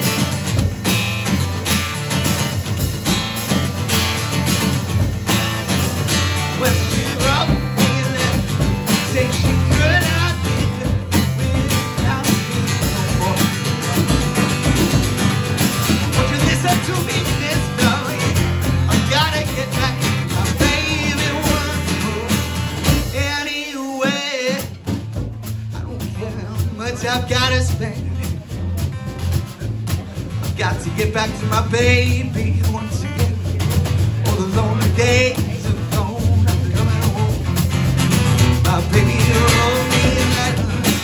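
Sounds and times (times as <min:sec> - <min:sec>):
drum kit playing: 0:00.0 - 0:41.0
strummed acoustic guitar: 0:00.0 - 0:41.0
man singing: 0:05.3 - 0:29.3, 0:30.2 - 0:41.0.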